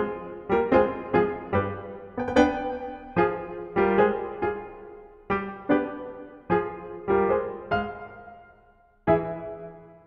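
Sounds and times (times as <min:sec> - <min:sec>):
piano notes and chords: 0:00.0 - 0:10.0.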